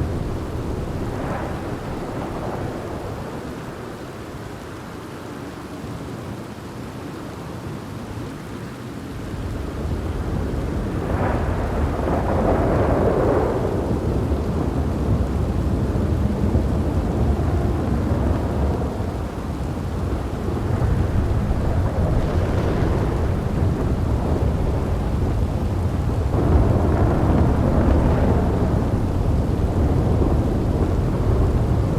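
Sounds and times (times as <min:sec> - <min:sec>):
rolling thunder: 0:00.0 - 0:05.0, 0:09.3 - 0:31.9
steady rain: 0:00.0 - 0:31.9.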